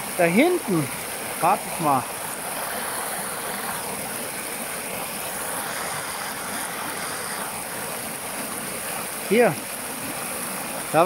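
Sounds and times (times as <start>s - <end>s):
flooded creek rushing: 0.0s - 11.0s.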